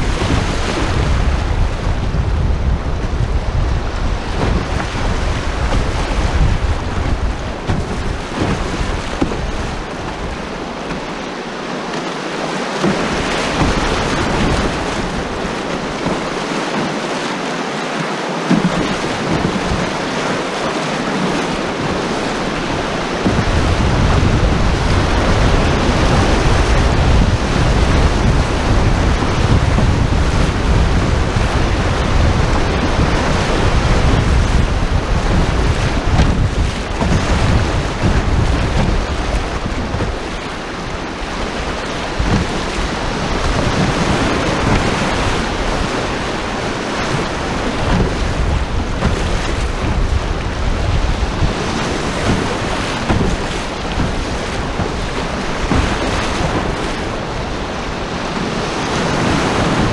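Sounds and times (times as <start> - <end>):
wind noise on microphone: 0.0 - 17.3, 18.5 - 59.9
whitewater rapids rushing: 0.0 - 59.9.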